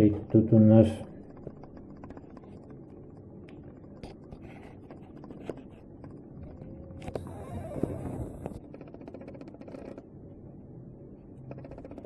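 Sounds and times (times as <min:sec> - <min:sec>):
faint clicks and taps: 0:00.0 - 0:10.1.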